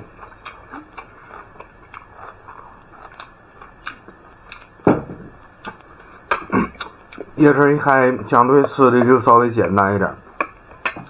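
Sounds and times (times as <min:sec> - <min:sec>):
close-up chewing and biting: 0:00.0 - 0:09.3, 0:10.2 - 0:11.0.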